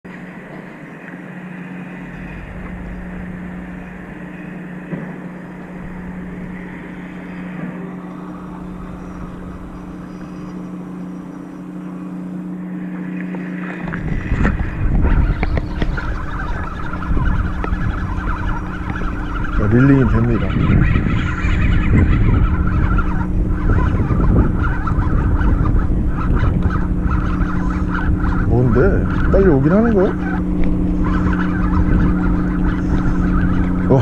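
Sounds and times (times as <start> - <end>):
boat engine humming: 0.0 - 34.0
fishing reel rumbling and clicking: 0.3 - 34.0.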